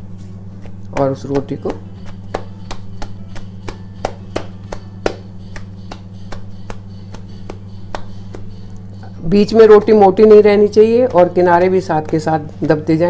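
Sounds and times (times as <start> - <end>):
steady low hum: 0.0 - 13.0
hands slapping dough: 0.1 - 13.0.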